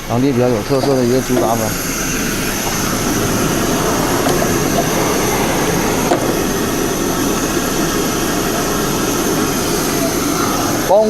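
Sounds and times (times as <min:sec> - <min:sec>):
faint high whine: 0:00.0 - 0:11.0
machinery roaring: 0:00.0 - 0:11.0.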